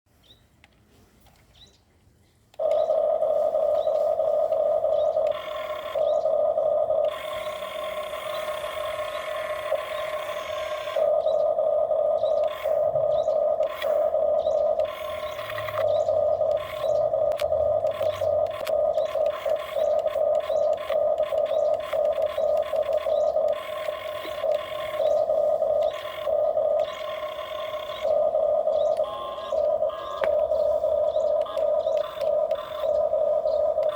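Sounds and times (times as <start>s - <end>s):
faint bird chirps: 1.4s - 33.9s
small electric motor whine: 2.6s - 33.9s.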